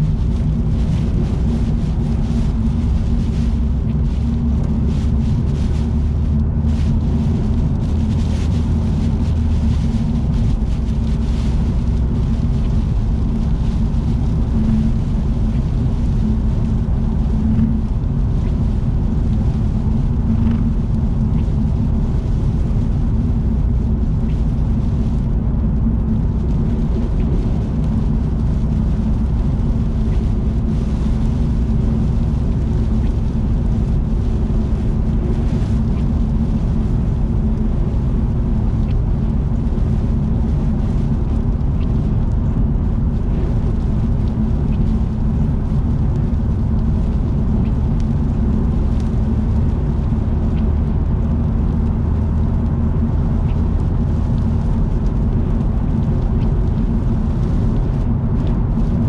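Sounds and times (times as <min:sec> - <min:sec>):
car tyre and engine drone: 0:00.0 - 0:59.0.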